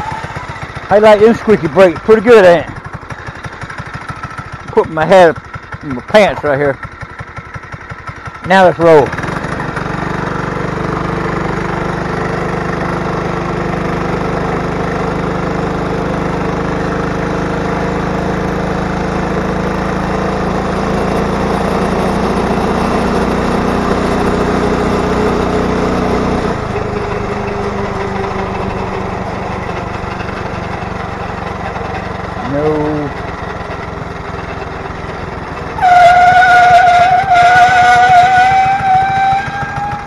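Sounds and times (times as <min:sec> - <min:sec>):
small gas engine running: 0:00.0 - 0:40.0.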